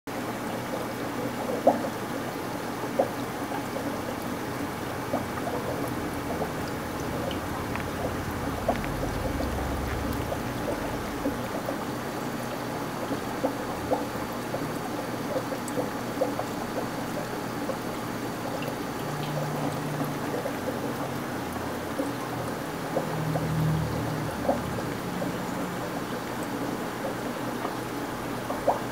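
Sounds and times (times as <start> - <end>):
aquarium water bubbling: 0.1 - 28.9.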